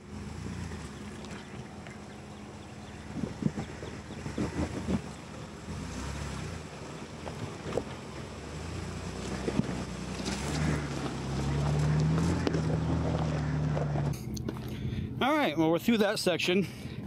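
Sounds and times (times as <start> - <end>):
truck engine pulling under load: 0.0 - 15.4.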